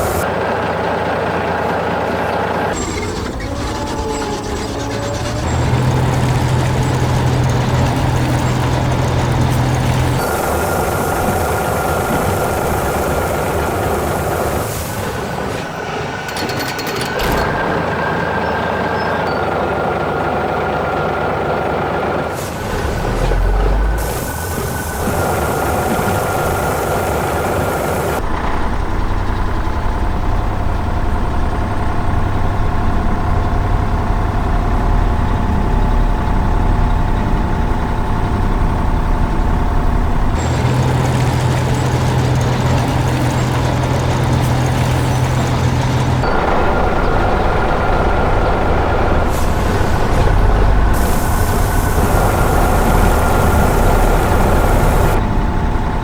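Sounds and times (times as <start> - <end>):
deep engine drone: 0.0 - 56.0
heavy vehicle engines running: 0.0 - 56.0.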